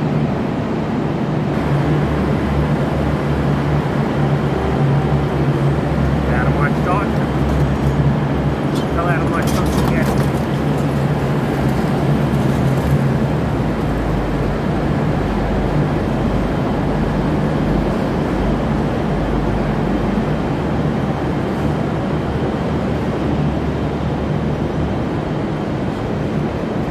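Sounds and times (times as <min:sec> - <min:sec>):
diesel train engine hum: 0:00.0 - 0:26.9
wheels rumbling on rail: 0:00.0 - 0:26.9.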